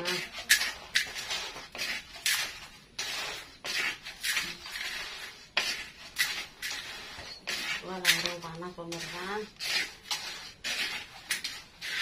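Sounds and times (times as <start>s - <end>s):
spatula scraping sand in a wok: 0.0s - 12.0s.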